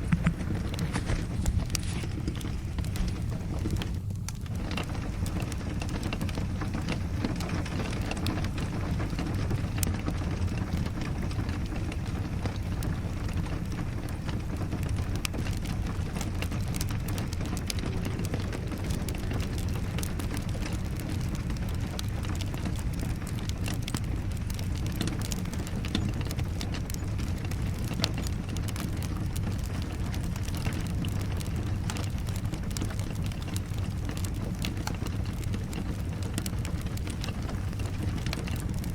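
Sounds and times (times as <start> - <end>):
steady rain: 0.0 - 38.9
wood fire crackling and popping: 0.0 - 38.9.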